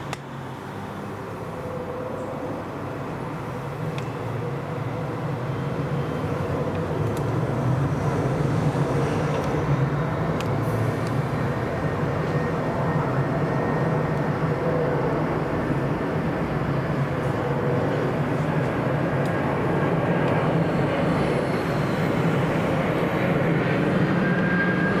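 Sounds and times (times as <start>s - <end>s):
jet engines rushing with low drone: 0.0s - 25.0s.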